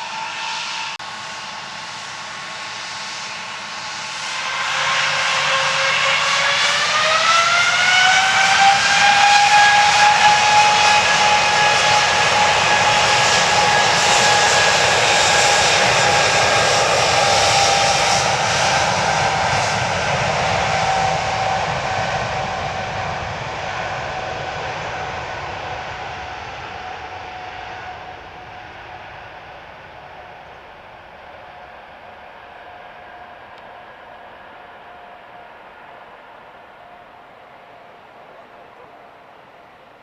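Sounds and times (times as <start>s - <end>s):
jet engines roaring and whining: 0.0s - 40.0s.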